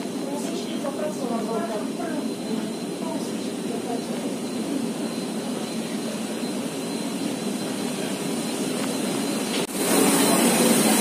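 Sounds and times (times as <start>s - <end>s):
muffled jet aircraft noise: 0.0s - 11.0s.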